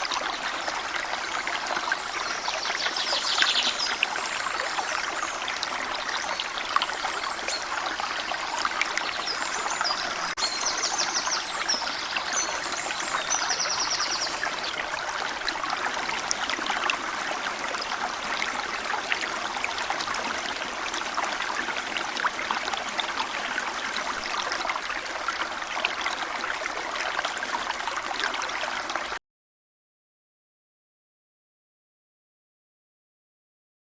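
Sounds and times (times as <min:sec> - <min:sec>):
stream trickling over stones: 0:00.0 - 0:29.2.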